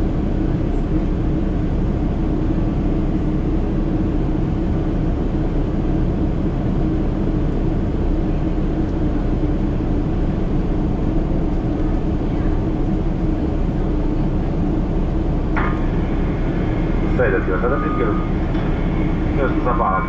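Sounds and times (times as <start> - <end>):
airplane cabin engine noise: 0.0 - 20.0.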